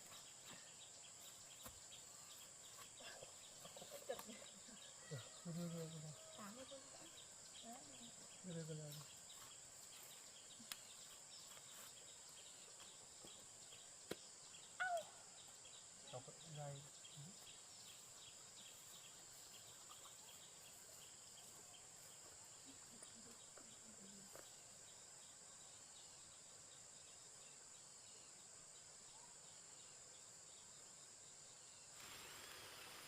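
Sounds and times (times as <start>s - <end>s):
faint high insect hum: 0.0s - 33.0s
insects chirping: 0.0s - 33.0s.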